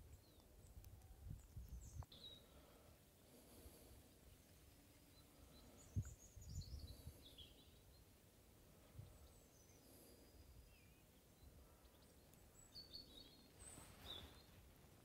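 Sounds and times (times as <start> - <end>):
bird song chirps: 0.0 - 14.8.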